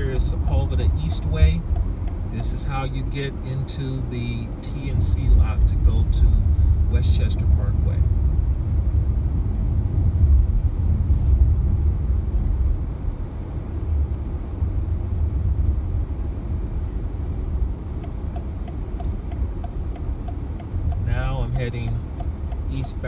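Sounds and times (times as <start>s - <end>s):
car interior road rumble: 0.0s - 23.0s.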